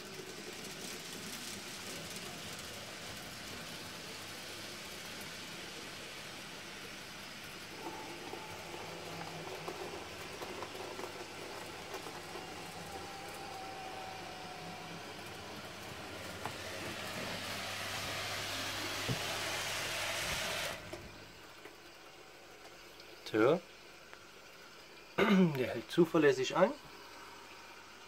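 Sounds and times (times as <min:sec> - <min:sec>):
model train motor whirr: 0:00.0 - 0:22.7.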